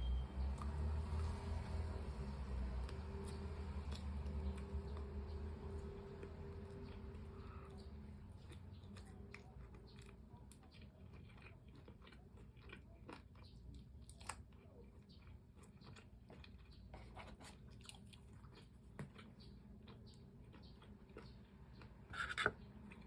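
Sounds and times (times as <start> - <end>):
crunching fried chicken: 0.4 - 23.0.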